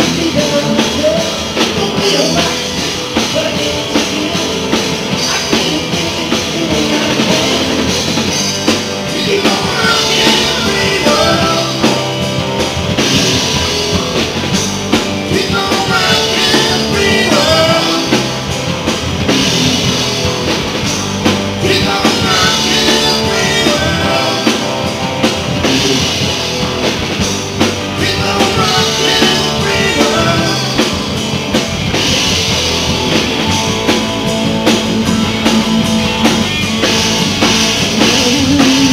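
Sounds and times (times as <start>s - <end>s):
lead voice singing: 0.0s - 20.0s, 21.1s - 26.8s, 27.6s - 31.6s, 33.2s - 38.9s
blues-rock band playing: 0.0s - 38.9s.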